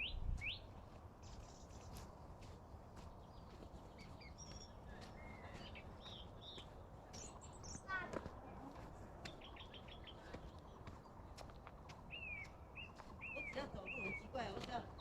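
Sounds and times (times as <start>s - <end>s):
forest birds chirping: 0.0s - 15.0s.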